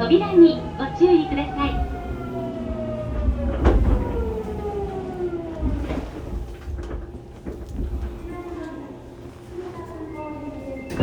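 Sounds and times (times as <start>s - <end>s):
low rumble of running gear: 0.0s - 10.7s
train inverter whining: 0.0s - 11.0s.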